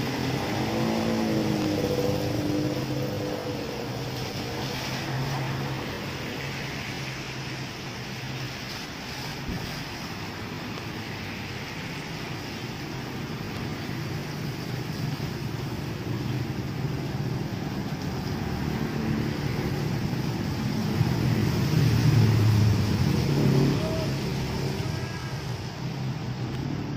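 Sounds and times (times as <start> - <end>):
tyres on wet road: 0.0 - 26.9.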